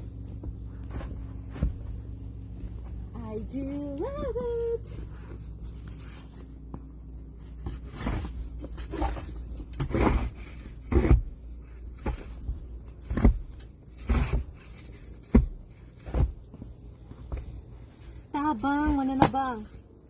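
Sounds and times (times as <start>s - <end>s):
scraping thumps: 0.0s - 19.9s
low steady rumble: 0.0s - 20.0s.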